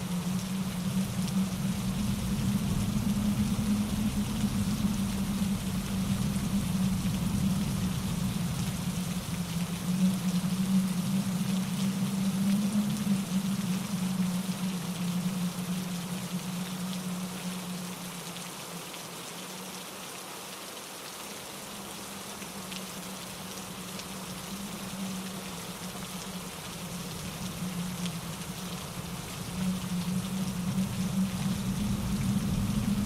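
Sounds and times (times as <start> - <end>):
steady low hum: 0.0 - 17.8, 23.0 - 33.0
rain falling on leaves: 0.0 - 33.0.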